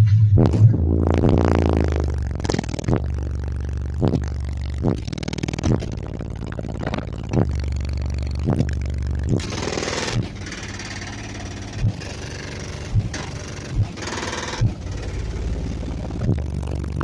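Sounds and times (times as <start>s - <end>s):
bass-heavy music through subwoofer: 0.0s - 17.0s
drum thumps: 0.0s - 17.0s
buzzing rattle: 0.9s - 17.0s.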